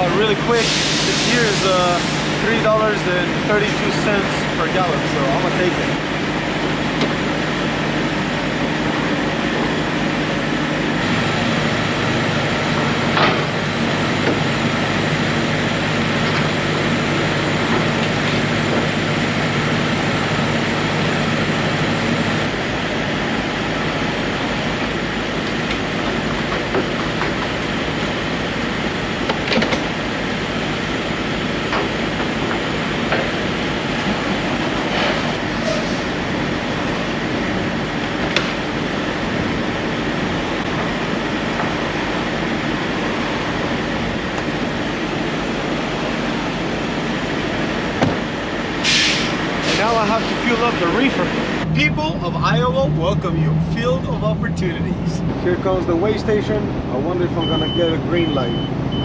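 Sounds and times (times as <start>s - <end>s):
diesel truck engine rumble: 0.0s - 59.0s.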